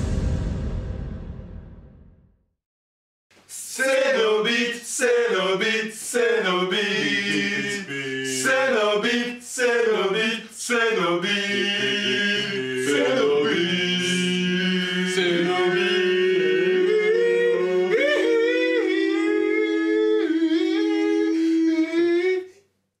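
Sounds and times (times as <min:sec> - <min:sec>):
men singing a cappella: 0:03.5 - 0:22.6.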